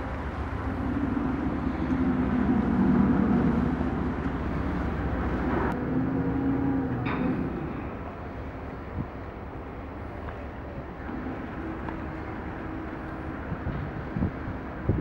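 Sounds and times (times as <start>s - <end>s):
ferry engine humming: 0.0s - 15.0s
steady noisy background: 0.0s - 15.0s.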